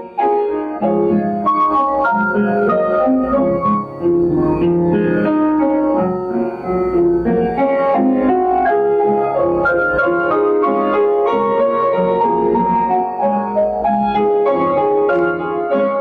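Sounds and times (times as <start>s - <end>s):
piano playing hymn chords: 0.0s - 16.0s.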